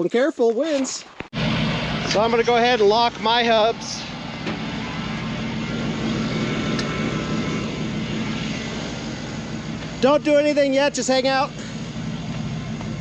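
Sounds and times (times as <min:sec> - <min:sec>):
vehicle engine idling: 0:01.4 - 0:13.0.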